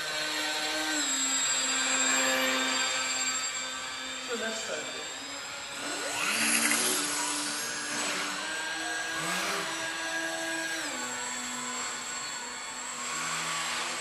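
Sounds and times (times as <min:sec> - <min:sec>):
model aeroplane motor whining: 0:00.0 - 0:14.0.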